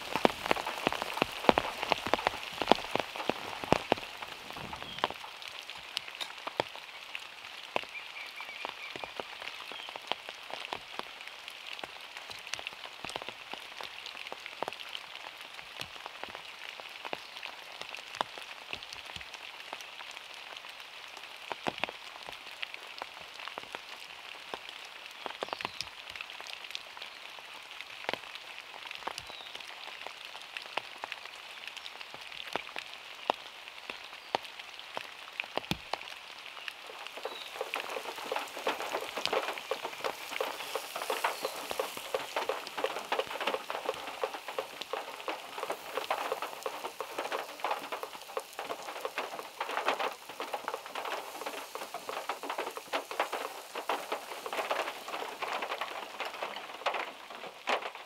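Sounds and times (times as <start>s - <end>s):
raindrops tapping on car: 0.0s - 27.0s, 33.3s - 58.0s
rain hissing on a car: 0.0s - 58.0s.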